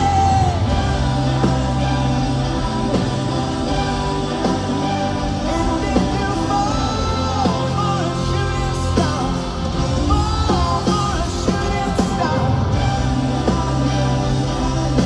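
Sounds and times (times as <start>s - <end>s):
live rock band playing: 0.0s - 15.0s
singer holding long notes: 0.0s - 15.0s.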